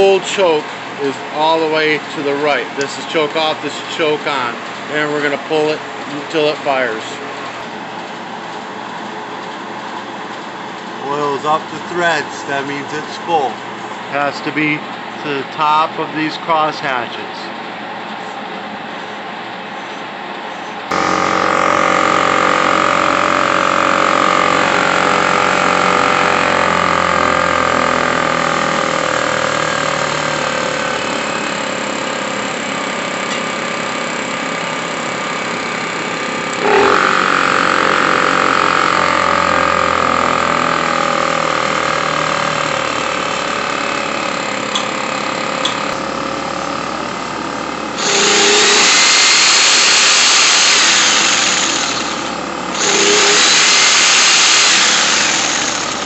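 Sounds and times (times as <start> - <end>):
generator engine running: 0.0 - 18.0, 20.9 - 56.0.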